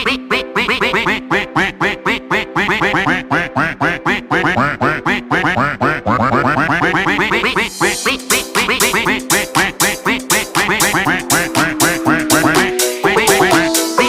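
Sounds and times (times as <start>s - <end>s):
dance music with held tones: 0.0s - 14.0s
duck quacking: 0.0s - 14.0s.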